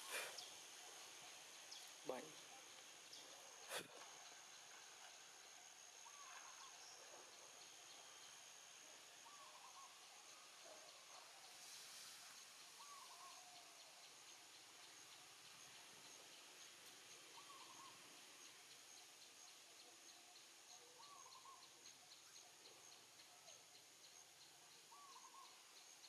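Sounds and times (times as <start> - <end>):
distant bird calls: 0.0 - 16.3, 17.2 - 19.1, 19.8 - 26.0
high insect drone: 0.0 - 26.0.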